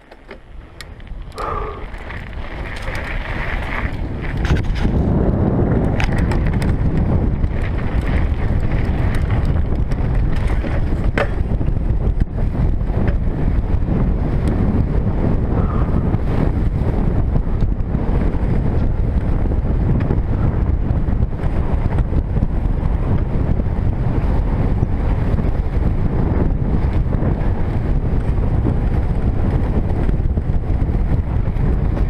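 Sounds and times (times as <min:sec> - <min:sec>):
bike clicking and rattling: 0:00.0 - 0:32.0
tyre rumble: 0:00.0 - 0:32.0
wind buffeting microphone: 0:00.0 - 0:32.0.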